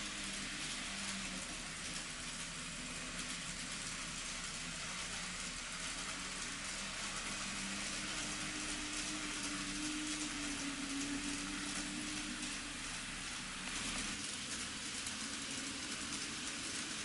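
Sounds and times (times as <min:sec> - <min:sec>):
model train motor hum: 0:00.0 - 0:17.0
model train wheels rolling on rail: 0:00.0 - 0:17.0.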